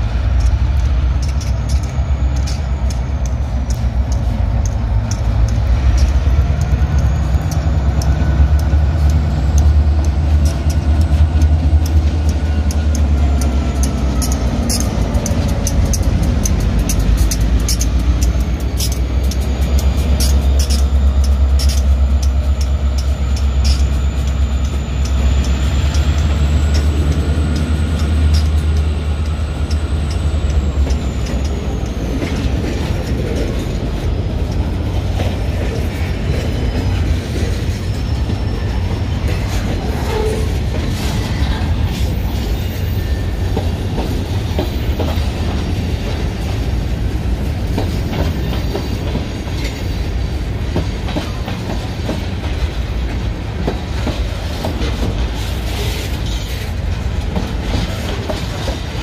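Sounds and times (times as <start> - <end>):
clickety-clack over rail joints: 0.0 - 59.0
diesel locomotive engine rumble: 0.0 - 59.0
train wheel noise: 0.0 - 59.0.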